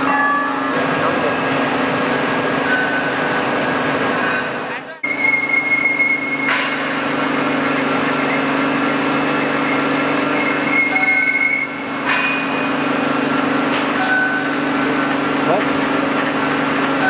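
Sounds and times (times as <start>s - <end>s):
machine humming: 0.0s - 17.0s
metal cutting noise: 0.0s - 17.0s.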